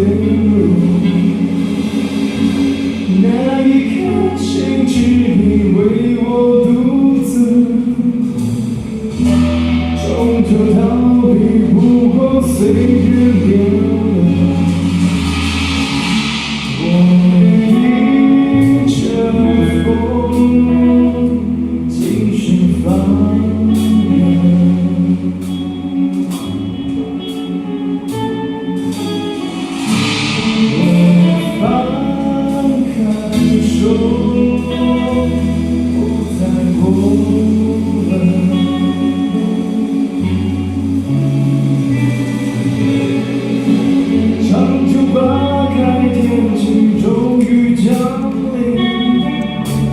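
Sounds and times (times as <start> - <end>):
percussion hits: 0.0 - 6.2, 8.2 - 21.4, 23.7 - 49.9
bass notes: 0.0 - 49.9
person singing: 0.0 - 49.9.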